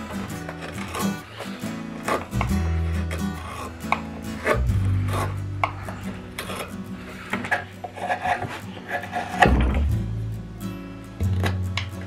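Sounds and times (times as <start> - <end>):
drawknife scraping wood: 0.0 - 10.0
acoustic guitar music: 0.0 - 12.0.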